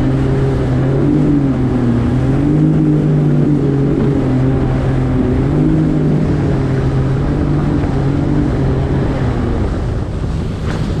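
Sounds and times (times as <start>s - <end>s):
jet ski engine running: 0.0s - 11.0s
wind and water rushing: 0.0s - 11.0s.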